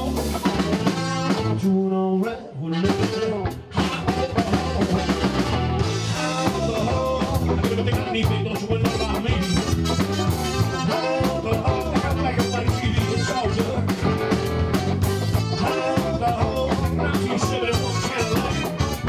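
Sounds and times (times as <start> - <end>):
drum kit beat: 0.0 - 1.6, 2.9 - 19.0
rock guitar: 0.0 - 1.9, 2.5 - 19.0.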